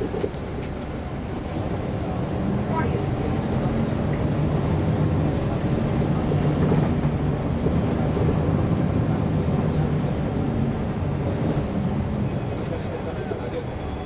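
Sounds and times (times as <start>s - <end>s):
bus diesel engine humming: 0.0s - 14.0s.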